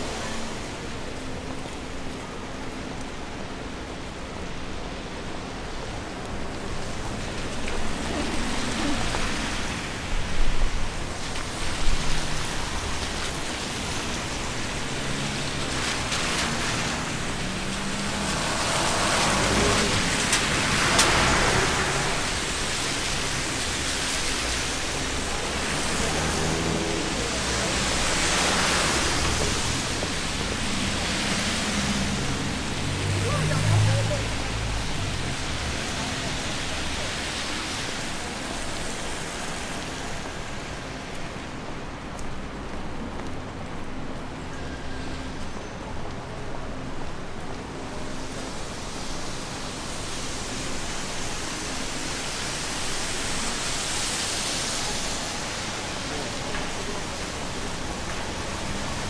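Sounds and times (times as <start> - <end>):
rain hissing on wet street: 0.0 - 59.0.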